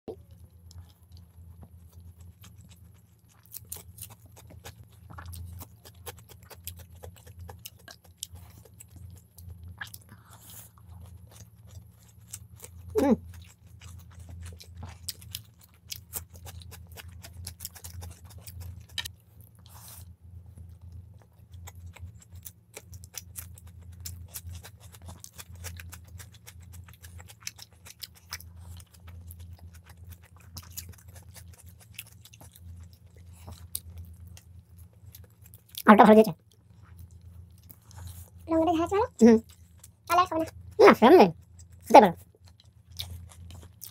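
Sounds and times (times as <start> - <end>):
people chewing and crunching food: 0.1 - 43.9
steady low hum: 0.1 - 43.9.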